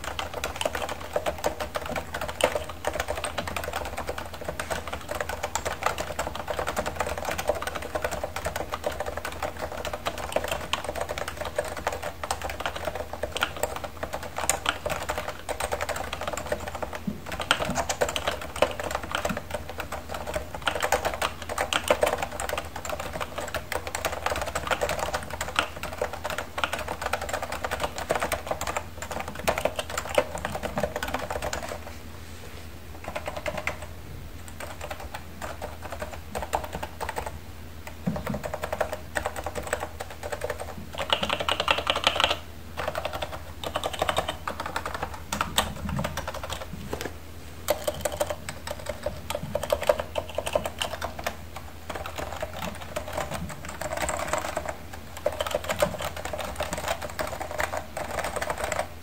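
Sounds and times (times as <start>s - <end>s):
keyboard typing: 0.0s - 31.9s, 33.0s - 33.9s, 34.5s - 47.1s, 47.7s - 59.0s.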